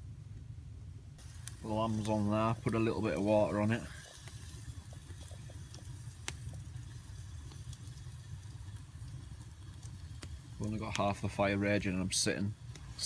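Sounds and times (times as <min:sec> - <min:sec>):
fire pop: 0:01.2 - 0:12.0, 0:12.6 - 0:13.0
campfire crackling: 0:01.2 - 0:13.0.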